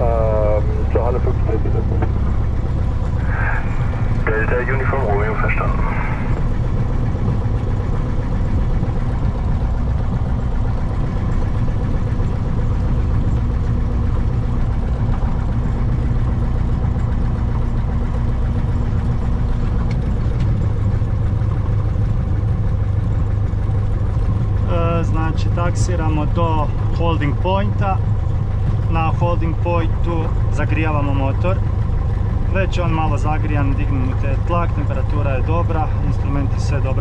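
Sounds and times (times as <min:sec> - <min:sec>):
airplane piston engine droning: 0:00.0 - 0:37.0.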